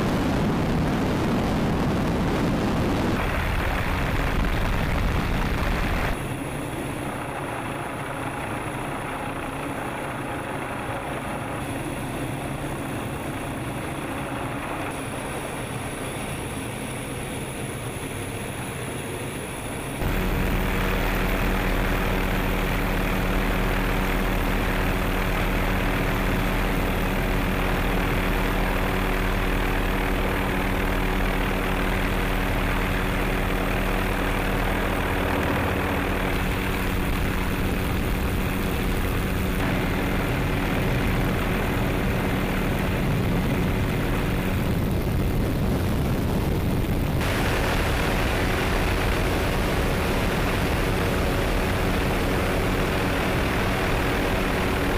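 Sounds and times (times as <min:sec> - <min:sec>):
helicopter in flight: 0:00.0 - 0:54.9.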